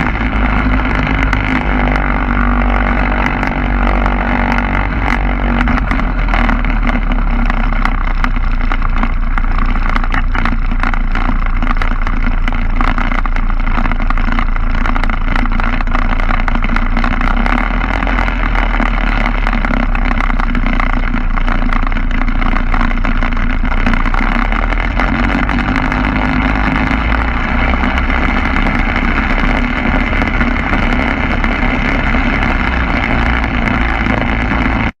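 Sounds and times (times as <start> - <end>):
ultralight engine and propeller: 0.0 - 35.0.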